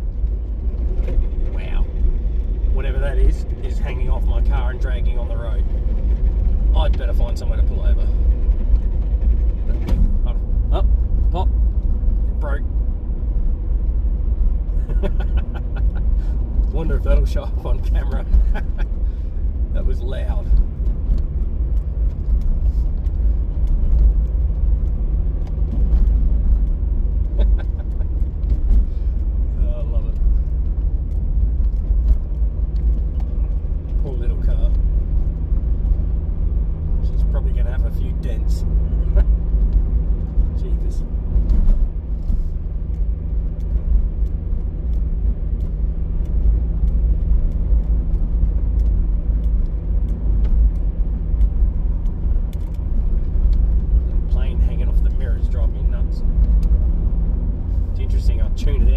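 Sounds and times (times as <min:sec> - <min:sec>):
tyre and wind noise in car: 0:00.0 - 0:58.9.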